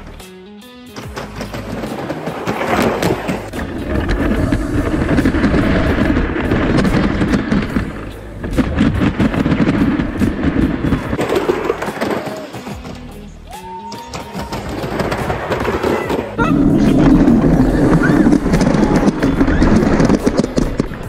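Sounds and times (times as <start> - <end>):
roller coaster car rattling on track: 1.0 - 13.2, 14.0 - 21.0.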